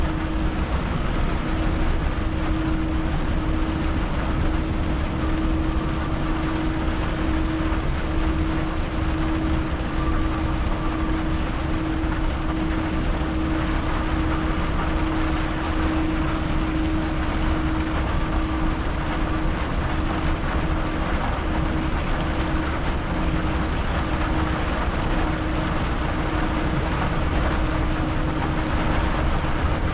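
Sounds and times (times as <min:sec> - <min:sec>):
truck engine and road drone: 0:00.0 - 0:29.9.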